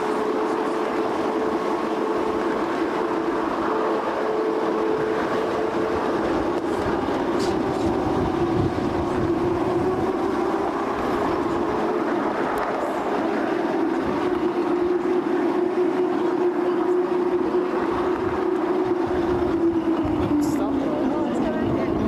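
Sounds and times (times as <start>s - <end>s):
steady whine: 0.0s - 22.0s
wheels rumbling on rail: 0.0s - 22.0s.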